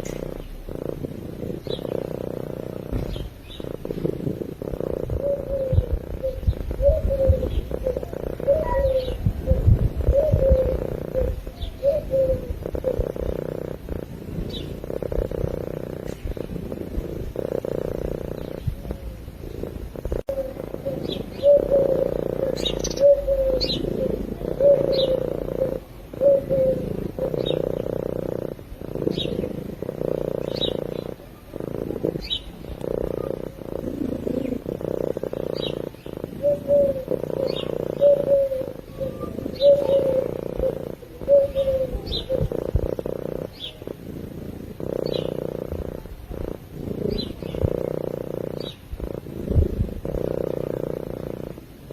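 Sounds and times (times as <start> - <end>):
cat purring: 0.0 - 51.9.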